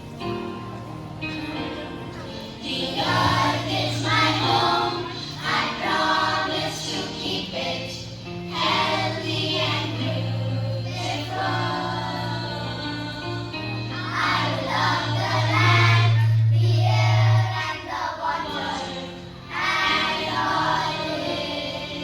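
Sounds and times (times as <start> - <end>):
children singing in chorus: 2.6 - 22.0.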